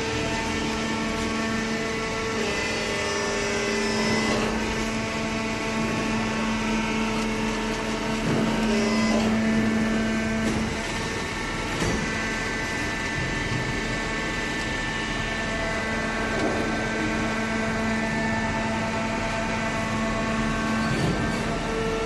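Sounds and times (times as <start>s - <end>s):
hydraulic power unit hum: 0.0s - 22.0s.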